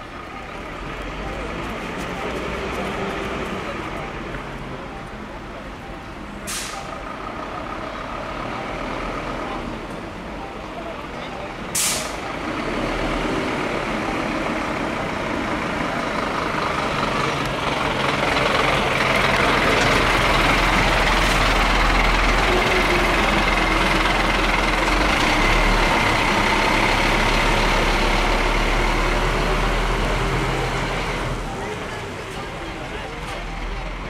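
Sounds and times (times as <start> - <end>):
fire engine diesel engine: 0.0 - 34.0.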